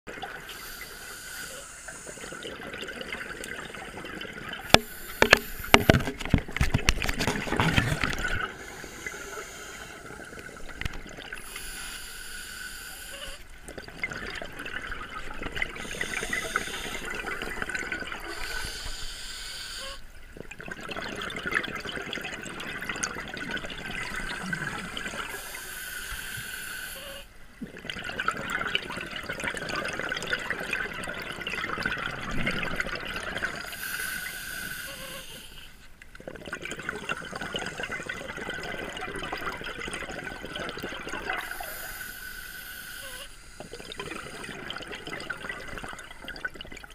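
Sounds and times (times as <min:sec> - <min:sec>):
diver regulator bubbling: 0:00.1 - 0:46.9.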